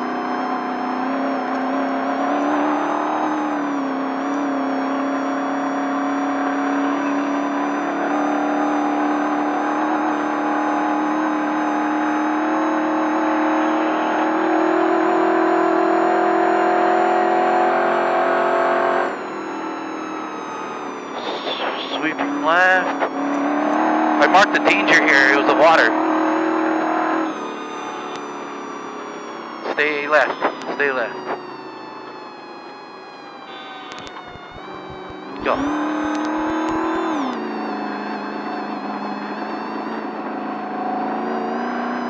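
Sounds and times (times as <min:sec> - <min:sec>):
truck engine revving high: 0:00.0 - 0:42.0.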